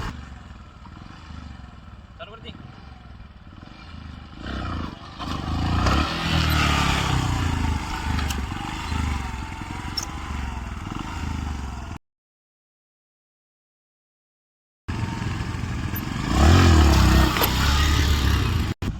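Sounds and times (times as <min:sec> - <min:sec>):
motorcycle engine running: 0:00.0 - 0:12.0, 0:14.9 - 0:18.9.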